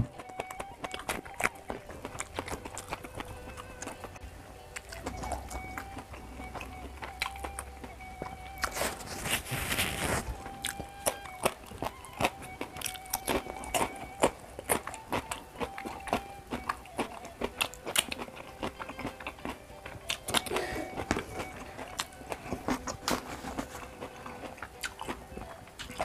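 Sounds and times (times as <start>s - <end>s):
man chewing food: 0.0s - 26.0s.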